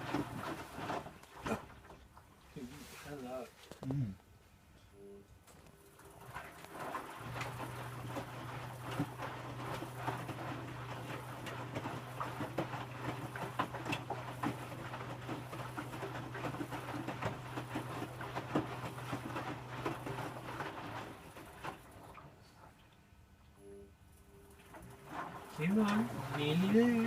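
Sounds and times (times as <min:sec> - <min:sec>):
washing machine motor hum: 0:00.0 - 0:02.7, 0:05.0 - 0:27.0
laundry sloshing and knocking in drum: 0:00.0 - 0:03.0, 0:06.0 - 0:22.8, 0:24.5 - 0:27.0.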